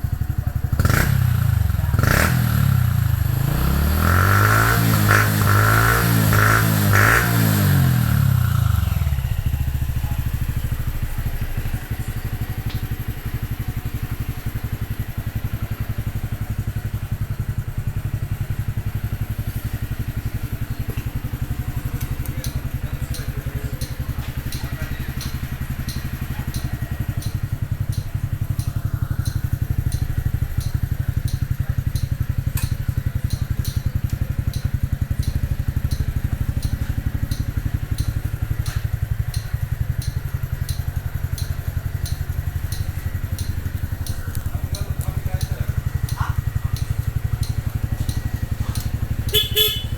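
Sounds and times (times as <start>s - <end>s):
motorcycle engine idling: 0.0s - 49.9s
light regular ticking: 8.5s - 49.9s.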